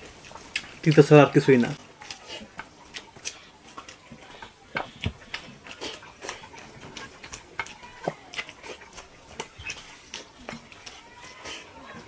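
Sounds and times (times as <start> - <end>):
chewing: 0.0 - 12.0
fingers mixing rice wet clicks: 0.0 - 12.0.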